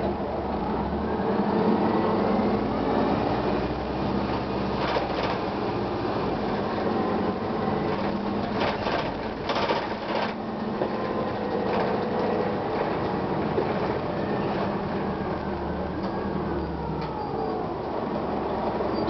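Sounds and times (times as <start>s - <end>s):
bus engine running: 0.0s - 19.0s.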